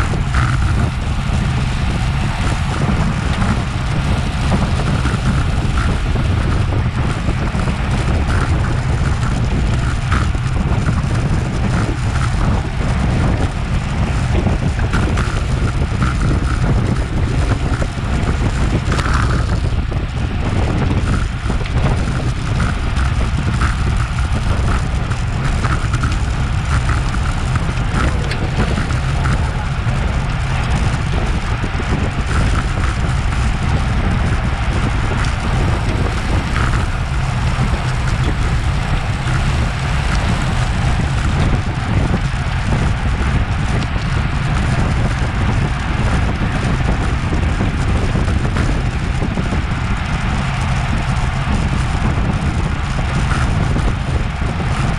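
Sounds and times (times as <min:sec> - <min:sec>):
faint tyre and drivetrain noise: 0:00.0 - 0:54.9
wind buffeting microphone: 0:00.0 - 0:54.9.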